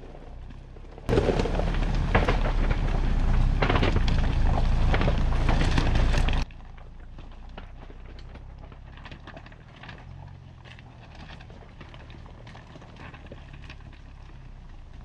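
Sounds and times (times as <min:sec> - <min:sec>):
low rumble: 0:00.0 - 0:12.5
tyres crunching over rocks: 0:00.0 - 0:15.0.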